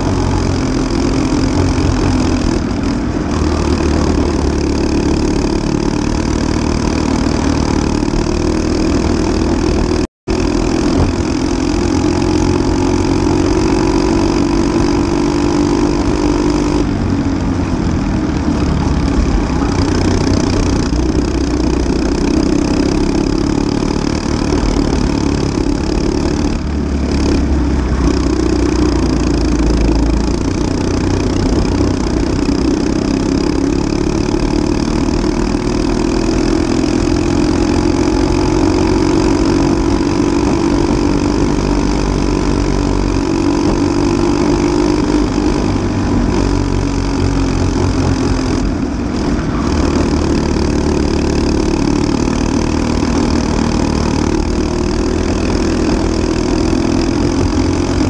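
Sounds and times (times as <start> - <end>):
kart engine running under load: 0.0 - 58.0.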